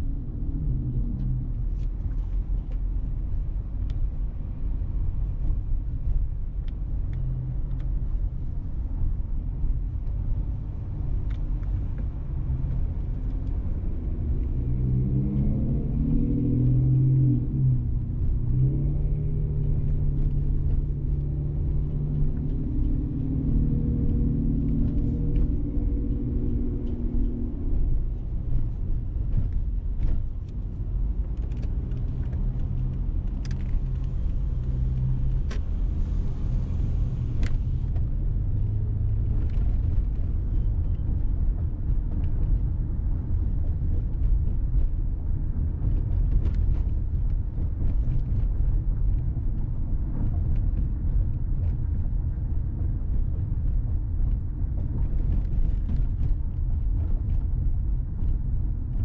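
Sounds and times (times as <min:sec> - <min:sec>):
car engine and road noise: 0:00.0 - 0:59.0
engine drone: 0:11.3 - 0:59.0.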